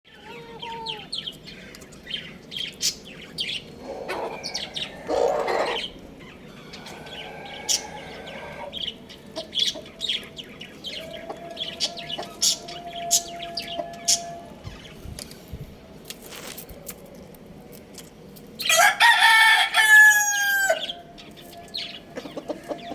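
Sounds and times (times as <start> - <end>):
birds chirping: 0.1 - 22.9.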